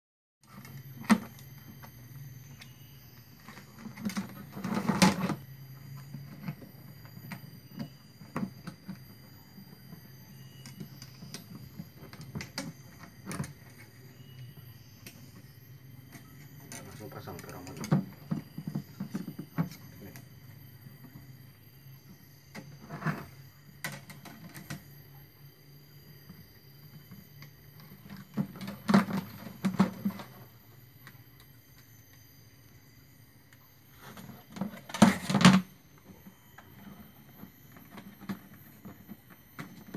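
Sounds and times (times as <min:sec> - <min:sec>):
low steady hum: 0:00.4 - 0:39.9.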